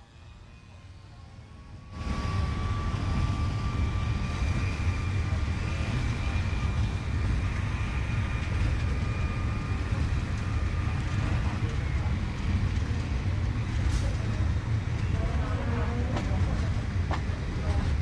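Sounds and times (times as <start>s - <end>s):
train rumbling: 0.7s - 18.0s.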